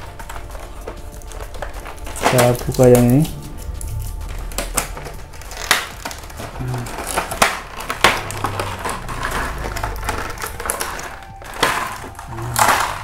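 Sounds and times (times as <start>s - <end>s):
background music: 0.0s - 13.0s
plastic packaging crinkling and snapping: 0.0s - 13.0s.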